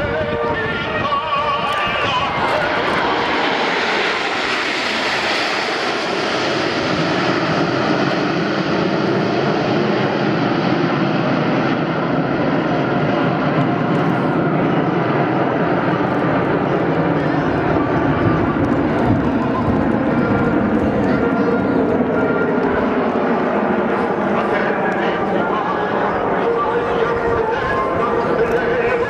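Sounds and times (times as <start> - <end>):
jet aircraft passing: 0.0 - 29.0.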